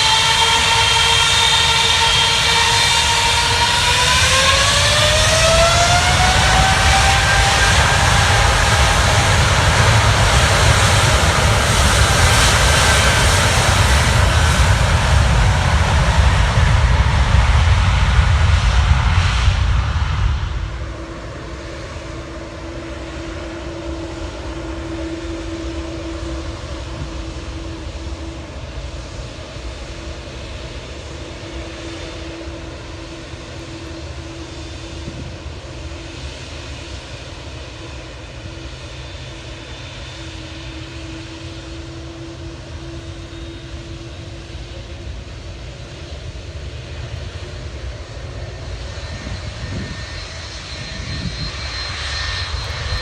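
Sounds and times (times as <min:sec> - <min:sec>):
airliner engines rumbling: 0:00.0 - 0:53.0.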